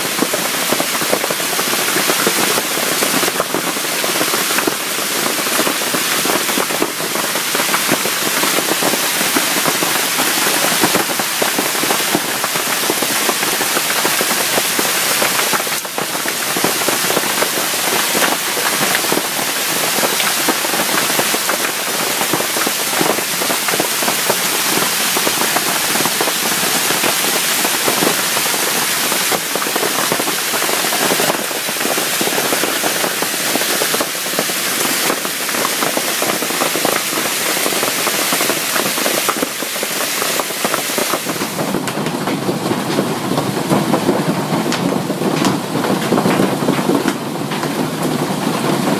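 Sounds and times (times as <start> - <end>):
hail and rain pelting: 0.0 - 48.9.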